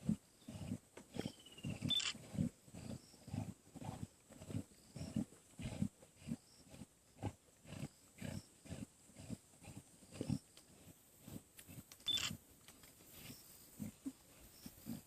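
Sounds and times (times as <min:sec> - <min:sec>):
lions growling: 0:00.0 - 0:11.9, 0:13.1 - 0:15.0.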